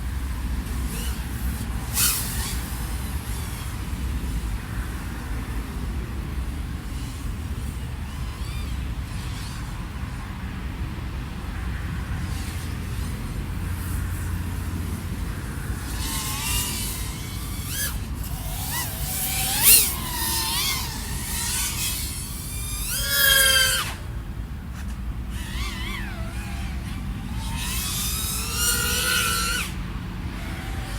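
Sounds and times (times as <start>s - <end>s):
drone motors whining: 0.1s - 10.3s, 12.2s - 30.9s.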